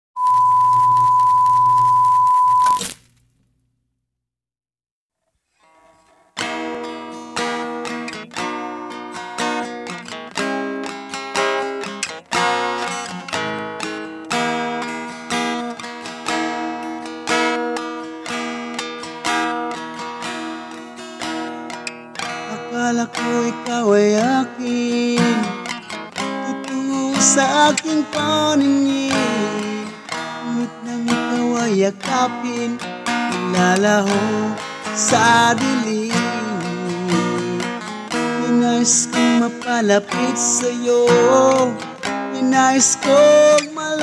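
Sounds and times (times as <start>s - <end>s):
acoustic guitar strumming: 5.6s - 44.0s.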